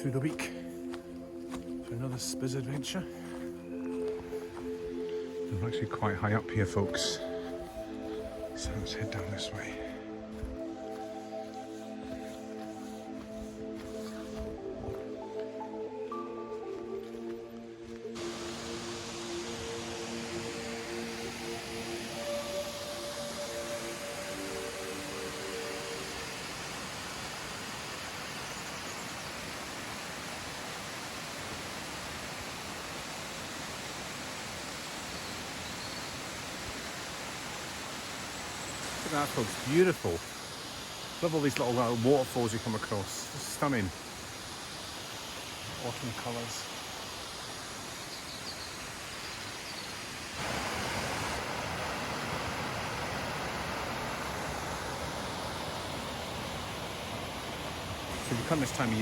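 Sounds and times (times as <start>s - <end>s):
waterfall rushing: 2.3s - 17.0s, 18.0s - 59.0s.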